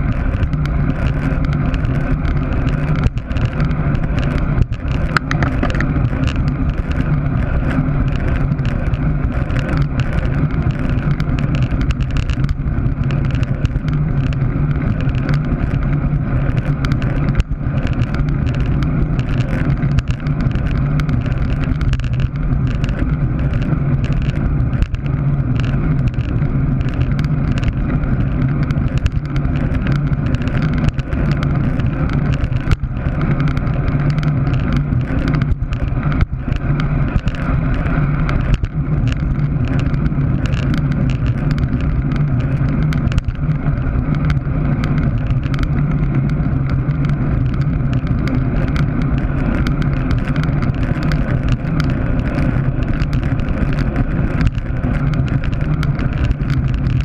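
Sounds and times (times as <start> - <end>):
tyres rumbling on asphalt: 0.0 - 57.0
wind buffeting microphone: 0.0 - 57.0.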